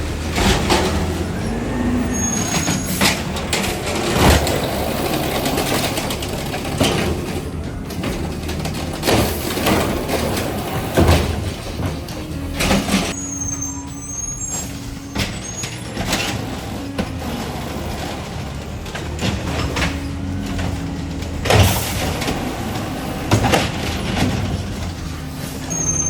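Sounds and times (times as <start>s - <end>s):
garbage truck engine running: 0.0s - 26.0s.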